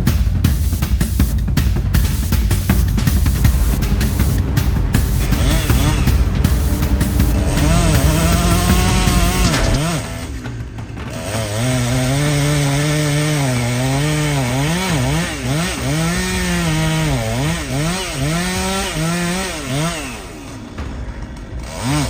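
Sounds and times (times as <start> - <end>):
chainsaw engine revving: 2.6 - 10.4, 11.0 - 20.9, 21.6 - 22.0.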